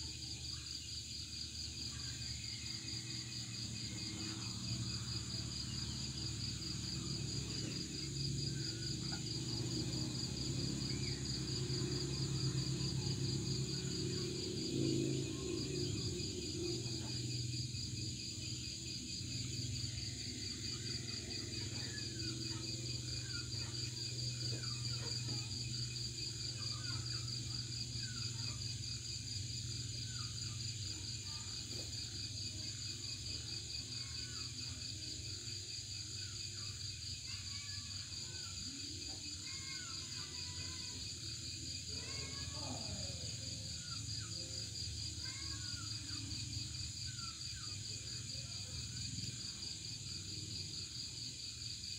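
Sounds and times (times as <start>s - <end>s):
crickets trilling: 0.0s - 51.9s.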